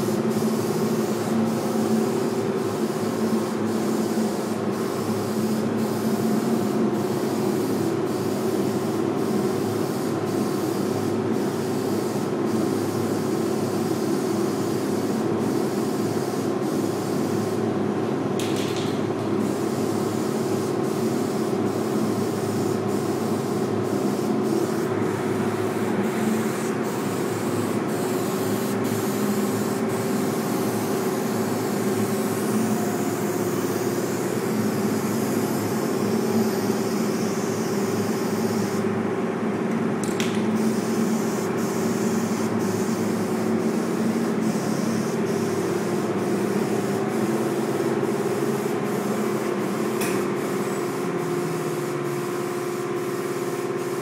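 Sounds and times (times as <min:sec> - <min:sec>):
paint spraying hiss: 0:00.0 - 0:39.0, 0:40.0 - 0:54.0
steady mechanical hum: 0:00.0 - 0:54.0.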